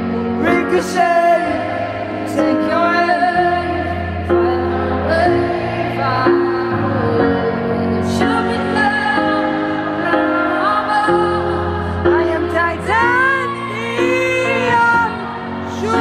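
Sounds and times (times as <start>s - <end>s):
woman singing slow melody: 2.2s - 16.0s.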